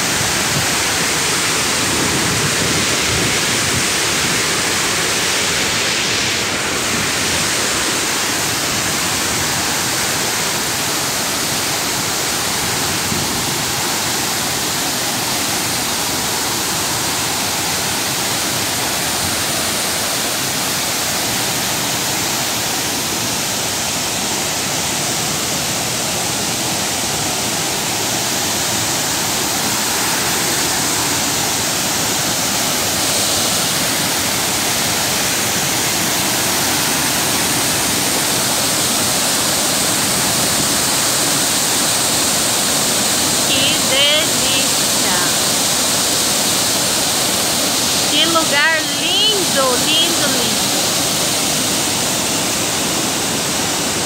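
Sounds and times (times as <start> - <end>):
waterfall rushing into pool: 0.0 - 54.0.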